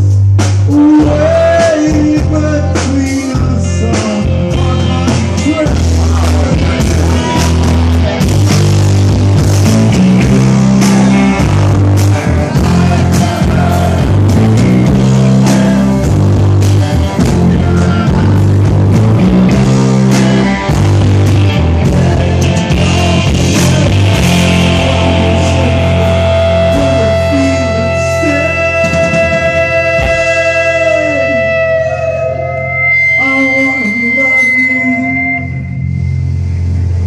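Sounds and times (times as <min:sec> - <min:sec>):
bass: 0:00.0 - 0:37.0
drums: 0:00.0 - 0:37.0
loud electric guitars: 0:00.0 - 0:37.0.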